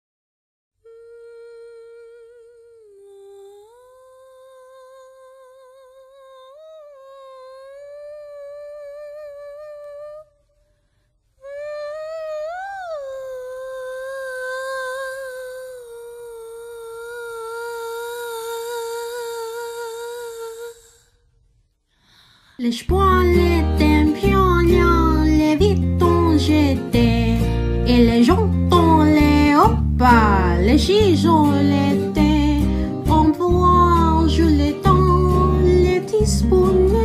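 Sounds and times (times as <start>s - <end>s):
person humming: 0.8s - 10.5s, 11.4s - 21.2s, 22.9s - 37.0s.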